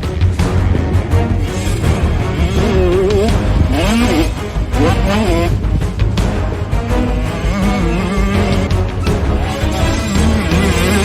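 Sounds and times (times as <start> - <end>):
music with heavy bass: 0.0 - 11.0.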